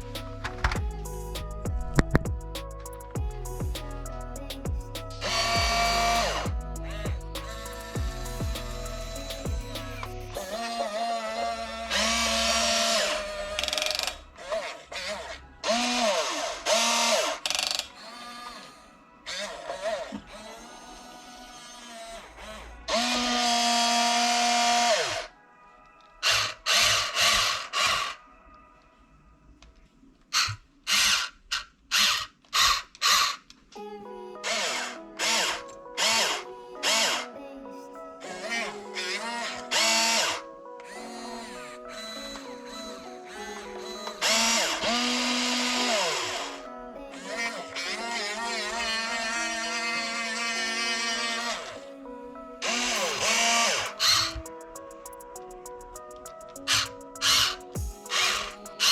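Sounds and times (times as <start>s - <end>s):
music playing: 0.0s - 26.1s, 33.8s - 58.9s.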